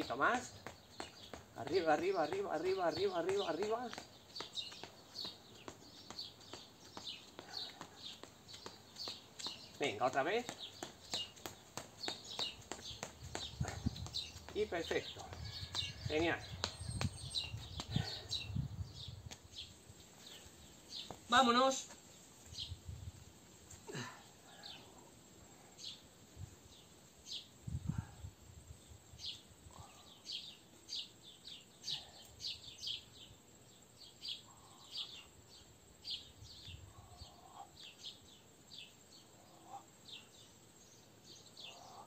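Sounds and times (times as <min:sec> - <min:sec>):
birds chirping: 0:00.0 - 0:22.8, 0:23.8 - 0:42.0.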